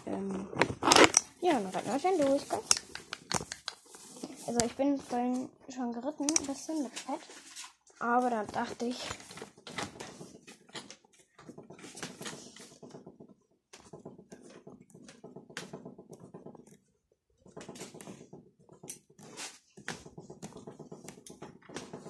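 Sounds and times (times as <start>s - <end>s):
clicks taps and rustles of handling: 0.0s - 22.0s.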